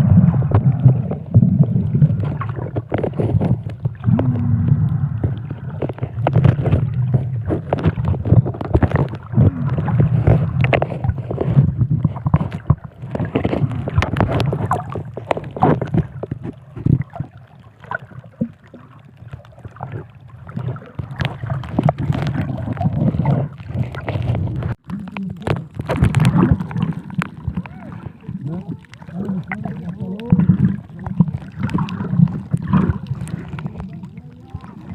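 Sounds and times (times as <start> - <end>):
low underwater rumble: 0.0 - 34.9
sharp clicks and crackles: 0.0 - 34.9.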